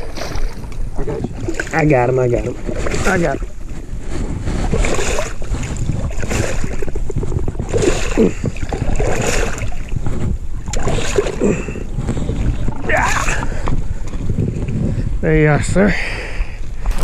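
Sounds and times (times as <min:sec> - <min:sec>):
rustling on microphone: 0:00.0 - 0:11.2, 0:11.8 - 0:15.2
microphone handling rumble: 0:00.0 - 0:17.0.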